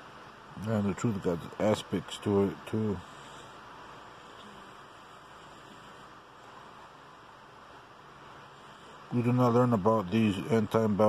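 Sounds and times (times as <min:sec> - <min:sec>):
faint recording hiss: 0:00.0 - 0:11.0.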